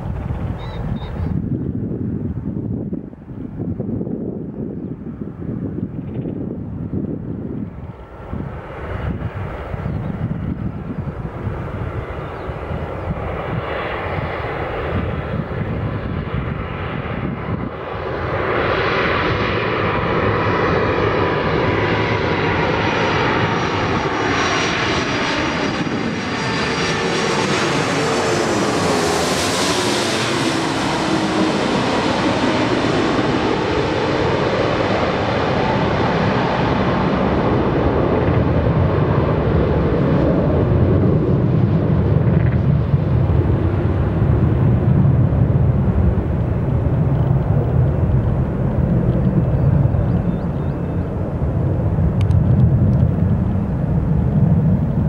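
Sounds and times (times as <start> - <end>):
jet engine whine: 0.0 - 55.0
jet rumble: 0.0 - 55.0.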